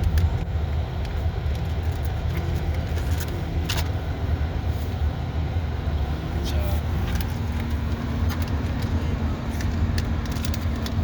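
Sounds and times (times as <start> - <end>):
car driving low rumble: 0.0 - 11.0.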